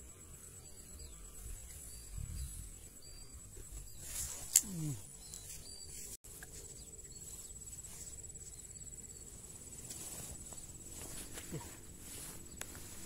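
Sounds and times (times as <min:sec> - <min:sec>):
insects trilling: 0:00.0 - 0:13.0
footsteps through grass: 0:01.4 - 0:13.0.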